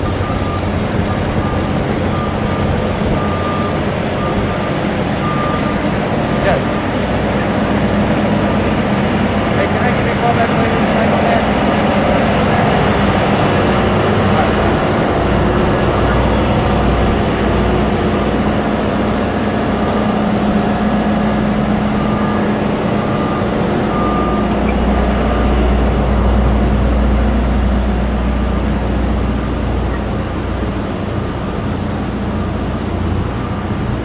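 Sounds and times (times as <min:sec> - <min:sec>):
heavy machinery droning: 0:00.0 - 0:34.0.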